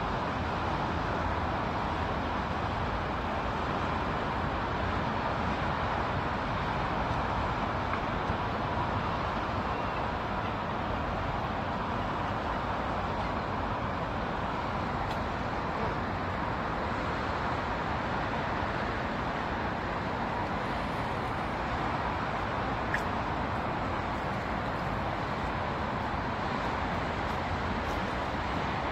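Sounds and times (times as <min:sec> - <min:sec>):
distant city road traffic: 0:00.0 - 0:28.9.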